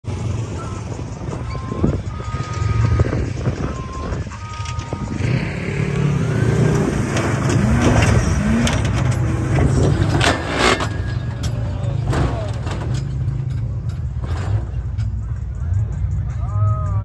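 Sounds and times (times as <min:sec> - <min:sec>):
off-road engine running hard: 0:00.0 - 0:17.0.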